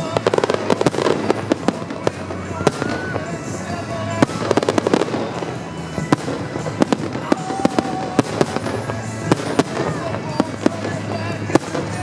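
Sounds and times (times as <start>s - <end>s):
background music: 0.0s - 12.0s
fireworks cracking and banging: 0.0s - 12.0s.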